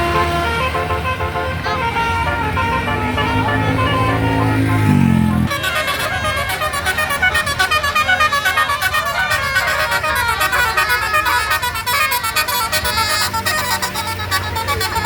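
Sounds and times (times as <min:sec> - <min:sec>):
musical vehicle horn melody: 0:00.0 - 0:15.0.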